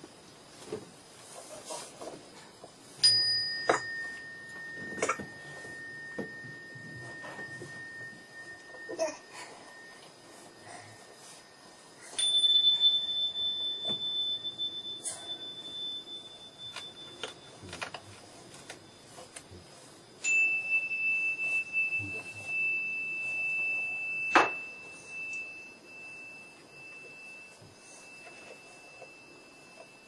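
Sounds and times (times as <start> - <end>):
pure ringing tones: 2.9 - 30.0.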